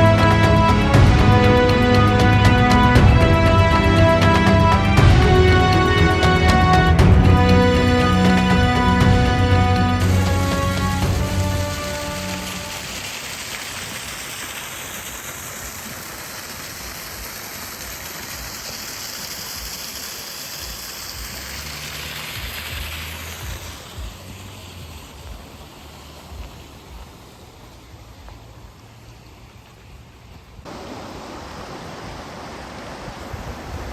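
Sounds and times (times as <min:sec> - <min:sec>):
stream water flowing: 0:00.0 - 0:33.9.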